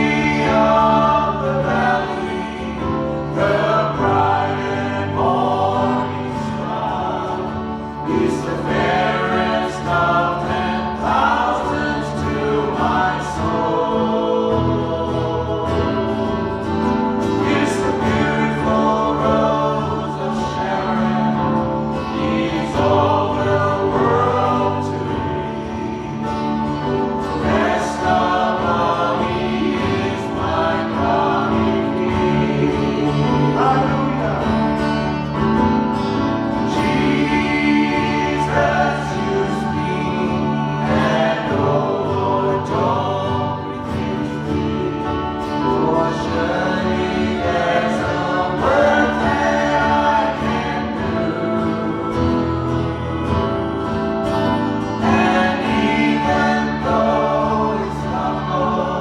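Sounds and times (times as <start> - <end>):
choir singing worship song: 0.0 - 59.0.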